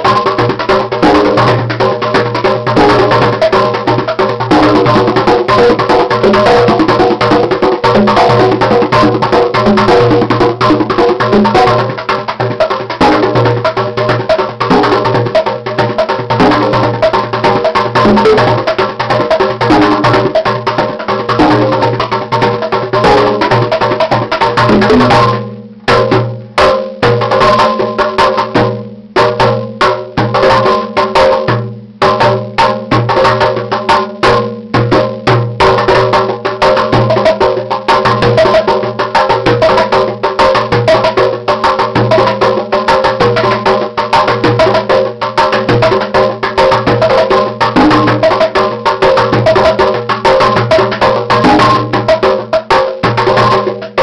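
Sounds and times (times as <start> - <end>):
bongos and djembes: 0.0 - 54.0
cajon: 0.0 - 54.0
hand drumming on water bottles: 0.0 - 54.0
steady held tones: 0.0 - 54.0.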